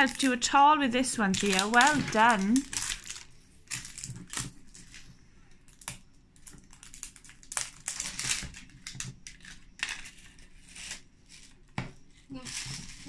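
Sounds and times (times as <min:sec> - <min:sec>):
wrapping crinkling: 0:00.0 - 0:13.0.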